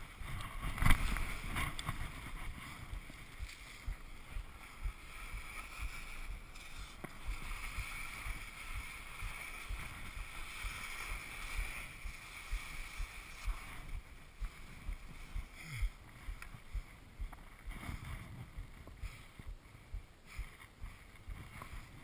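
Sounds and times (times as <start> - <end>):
skis scraping over snow: 0.0 - 22.0
wind thumps on microphone: 0.0 - 22.0.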